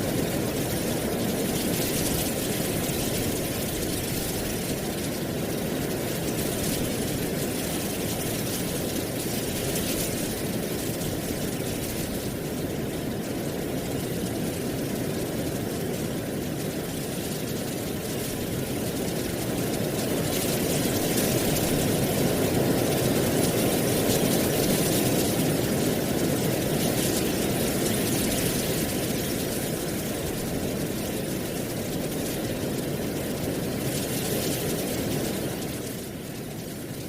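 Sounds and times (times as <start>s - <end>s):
wind rustling dry leaves: 0.0s - 37.0s.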